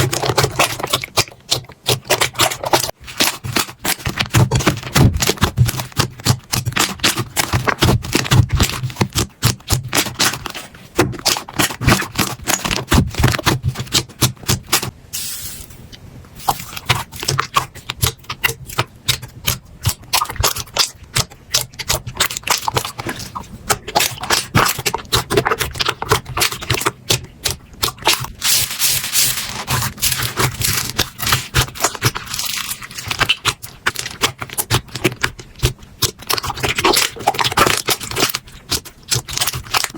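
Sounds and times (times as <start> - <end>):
slime squishing and crackling: 0.0 - 14.9, 16.4 - 39.9.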